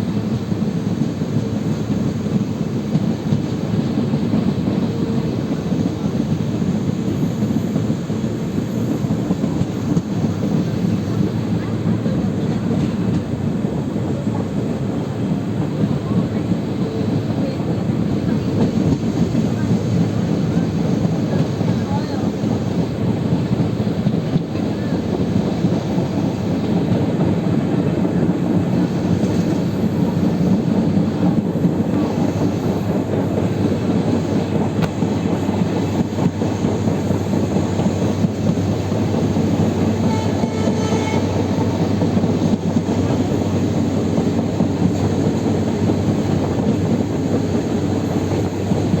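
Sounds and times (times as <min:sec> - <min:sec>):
moving vehicle rumble: 0:00.2 - 0:49.0.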